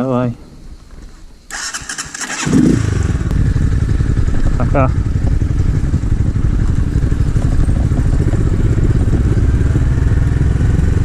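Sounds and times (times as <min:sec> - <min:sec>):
motorcycle engine running: 0:01.5 - 0:11.0.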